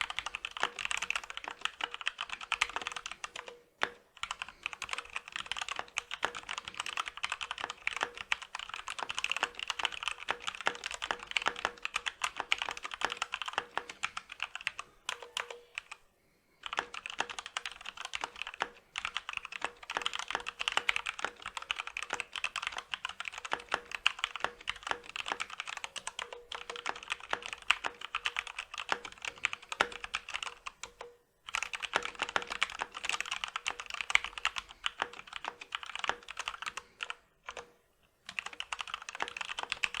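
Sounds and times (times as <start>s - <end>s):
mechanical keyboard typing: 0.0s - 16.0s, 16.6s - 40.0s.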